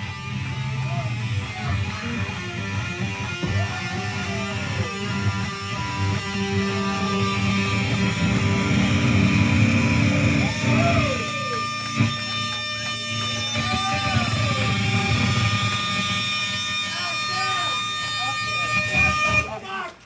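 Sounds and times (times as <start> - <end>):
electric guitars through amplifiers: 0.0 - 20.0
guitar feedback tones: 0.0 - 20.0.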